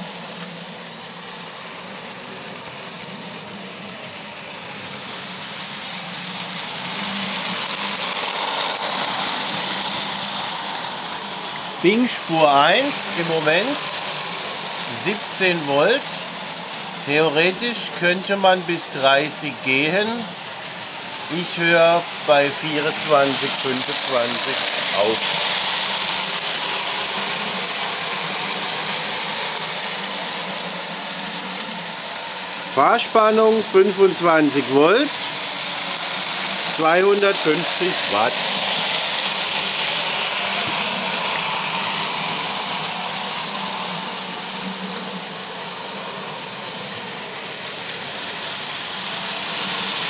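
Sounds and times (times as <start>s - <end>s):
toy train running on track: 0.0s - 50.0s.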